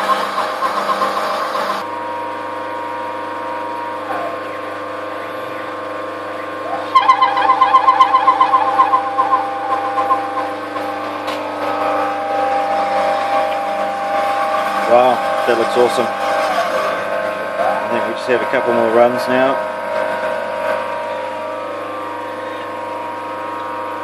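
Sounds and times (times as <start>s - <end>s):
lathe spindle running: 0.0s - 24.0s
stepper motors whining: 0.0s - 24.0s.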